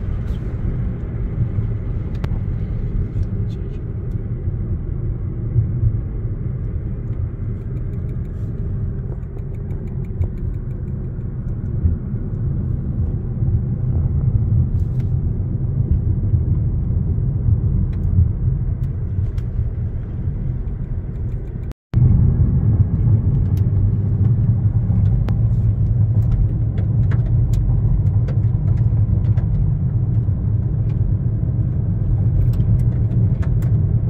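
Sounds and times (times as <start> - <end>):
car cabin road and engine rumble: 0.0 - 34.0.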